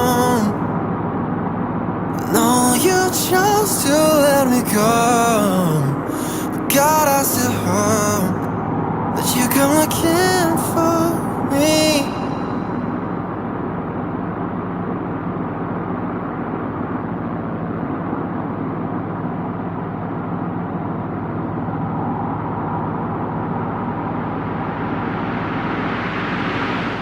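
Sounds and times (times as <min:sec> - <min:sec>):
car engine: 0:00.0 - 0:27.0.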